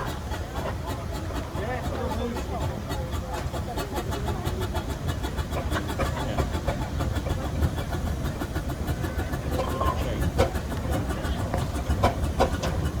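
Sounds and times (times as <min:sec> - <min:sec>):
steam engines rumbling and clattering: 0:00.0 - 0:13.0.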